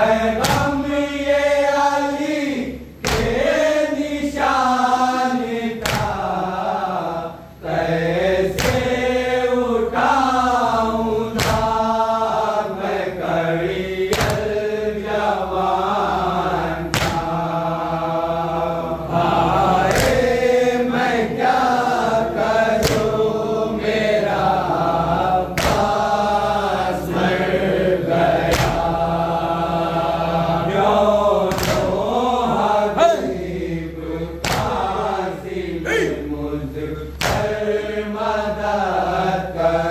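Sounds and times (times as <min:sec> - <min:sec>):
men chanting in unison: 0:00.0 - 0:39.9.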